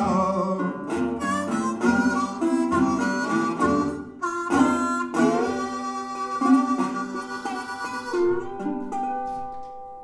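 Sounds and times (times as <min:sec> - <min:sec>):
blues harmonica: 0:00.0 - 0:09.0
resonator guitar: 0:00.0 - 0:10.0.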